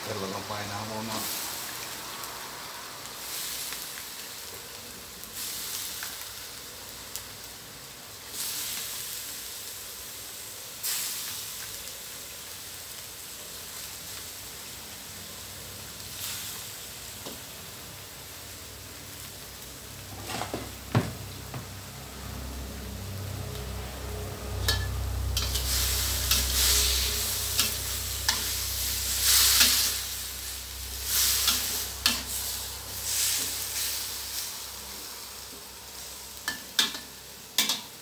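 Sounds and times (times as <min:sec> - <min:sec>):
food sizzling in a wok: 0:00.0 - 0:38.0.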